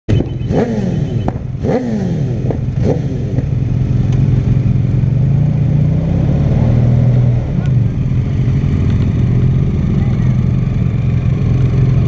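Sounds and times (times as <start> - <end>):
engine revving and idling: 0.1 - 12.0.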